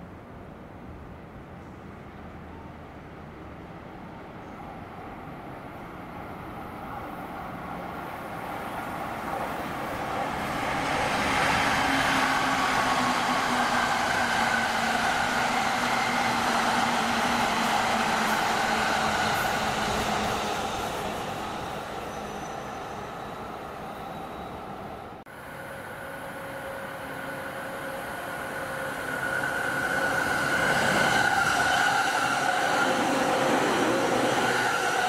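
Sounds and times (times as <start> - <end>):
electric train passing: 2.1 - 35.0.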